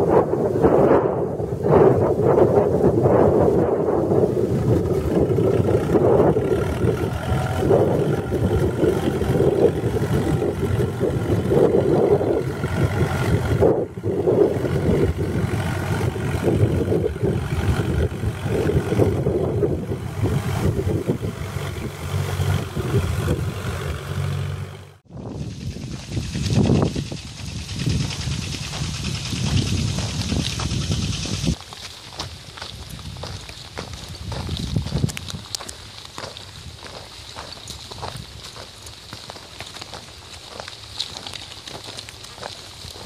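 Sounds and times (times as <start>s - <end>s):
tractor engine under load: 1.3s - 43.0s.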